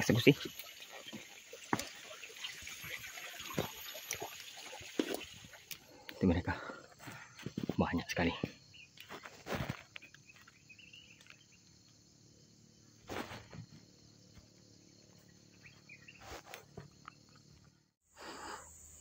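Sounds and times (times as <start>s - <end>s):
insect drone: 0.0s - 19.0s.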